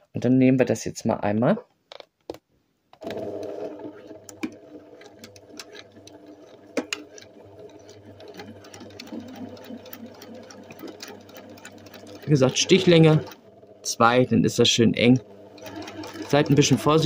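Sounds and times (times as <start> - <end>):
sewing machine stitching: 3.0 - 17.0.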